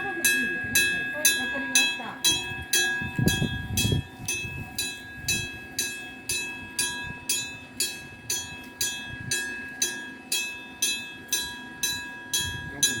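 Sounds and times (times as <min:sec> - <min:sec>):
level crossing warning bell: 0:00.0 - 0:13.0.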